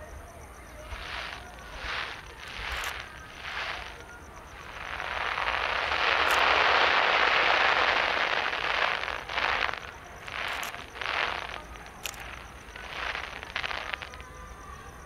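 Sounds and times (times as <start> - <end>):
distant fireworks crackling: 0.0 - 15.0.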